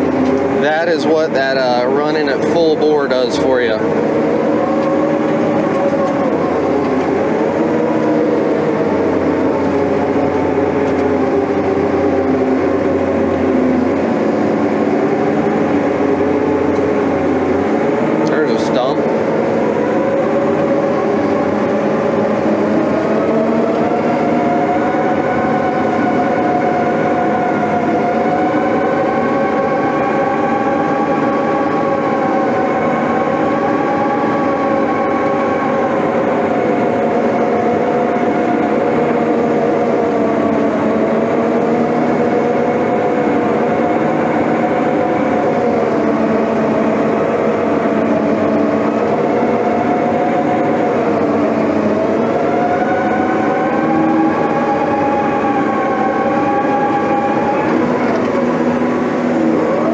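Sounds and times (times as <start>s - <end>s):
diesel engine running hard: 0.0s - 59.9s
engine whine: 0.0s - 59.9s.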